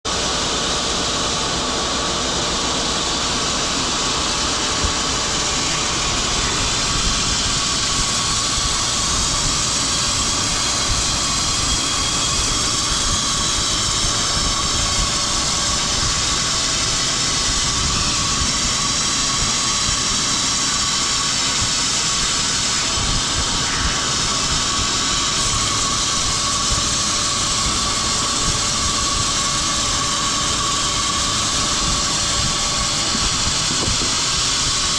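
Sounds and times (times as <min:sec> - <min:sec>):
woodworking machinery running: 0:00.1 - 0:34.9.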